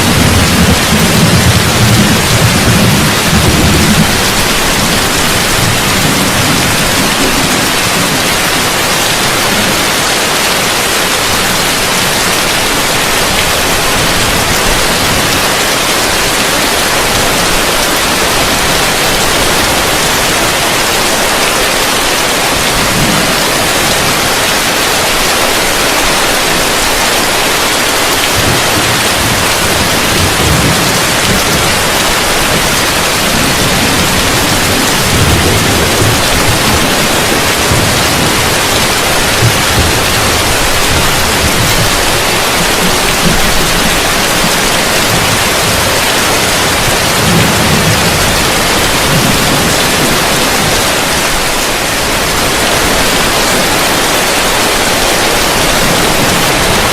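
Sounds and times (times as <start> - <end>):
heavy rain on a roof: 0.0 - 56.9.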